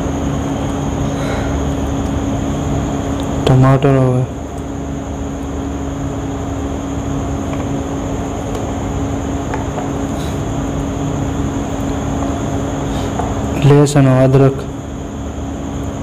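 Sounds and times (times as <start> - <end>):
mechanical hum with high whine: 0.0 - 16.0.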